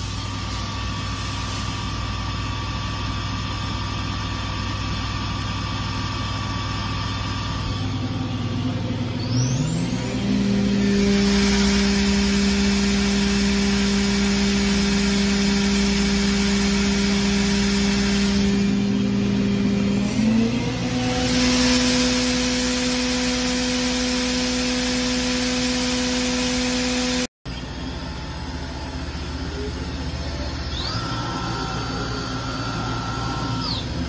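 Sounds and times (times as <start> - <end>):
machine hum: 0.0 - 34.0
spindle whine: 0.0 - 34.0.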